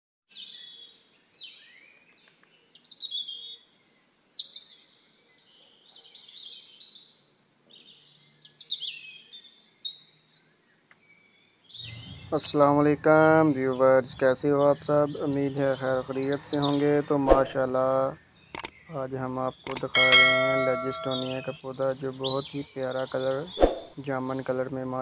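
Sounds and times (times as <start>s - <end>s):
songbirds chirping: 0.3s - 25.0s.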